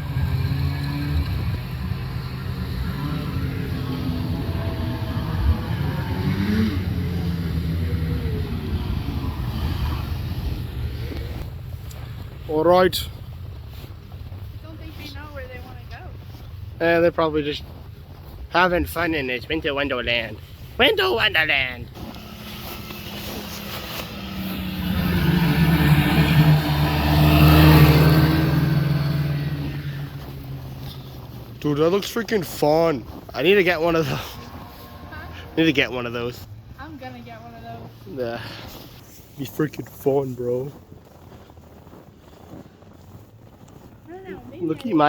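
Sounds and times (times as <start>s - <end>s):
snowmobile engines passing: 0.0s - 45.0s.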